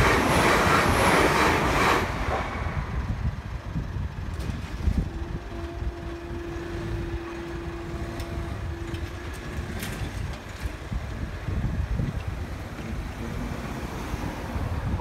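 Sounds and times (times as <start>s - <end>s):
cars driving across: 0.0s - 15.0s
road traffic: 0.0s - 15.0s
wind: 0.0s - 15.0s.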